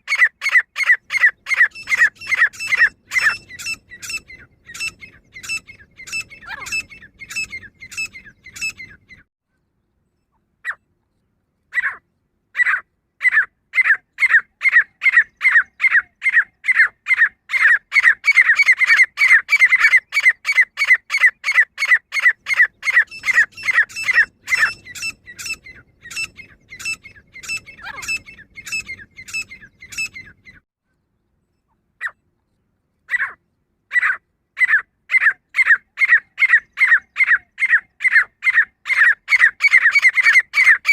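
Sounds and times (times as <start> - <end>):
bird calling sharp notes: 0.0 - 9.3, 12.6 - 30.6, 33.1 - 40.9.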